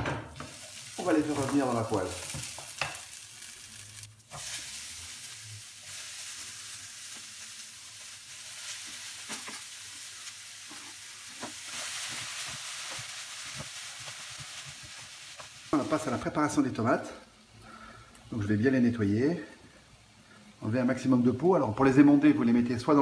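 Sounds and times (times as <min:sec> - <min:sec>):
peppers sizzling in frying pan: 0:00.0 - 0:23.0.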